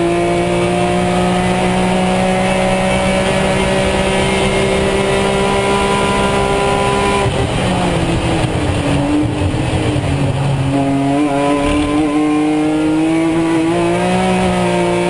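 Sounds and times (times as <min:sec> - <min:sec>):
race car engine from cockpit: 0:00.0 - 0:15.0.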